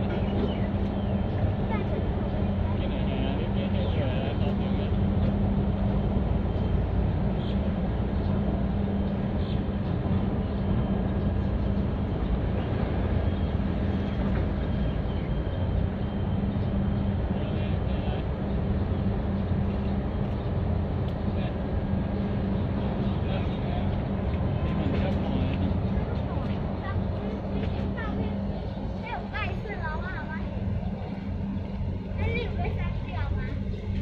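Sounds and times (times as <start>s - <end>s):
low engine hum: 0.0s - 34.0s.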